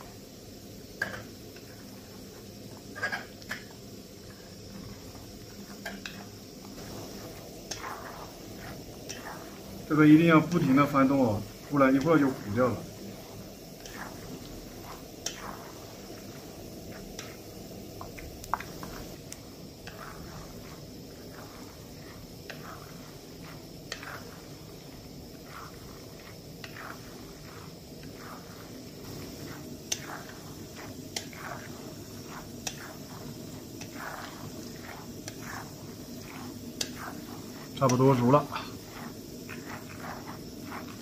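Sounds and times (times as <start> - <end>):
peanuts sizzling in oil: 0.0 - 41.0
stirring scraping pan: 0.0 - 41.0.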